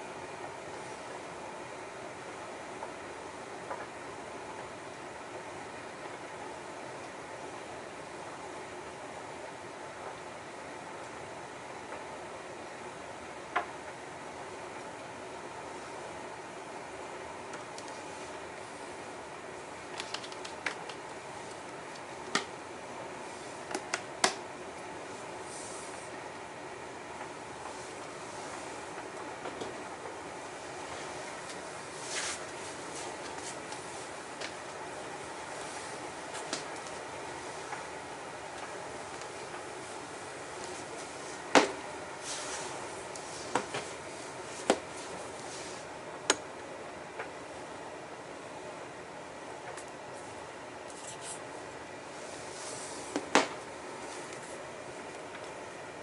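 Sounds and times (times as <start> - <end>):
steady background hum: 0.0 - 56.0
steady low hiss: 0.0 - 56.0.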